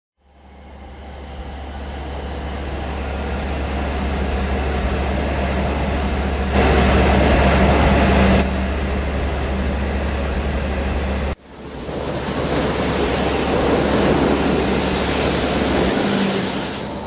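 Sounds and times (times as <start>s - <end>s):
diesel locomotive engine rumble: 0.2s - 17.0s.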